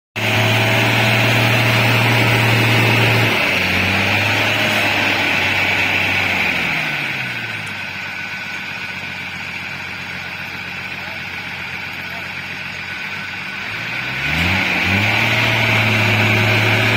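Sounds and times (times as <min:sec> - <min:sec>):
truck engine working hard: 0:00.2 - 0:16.9.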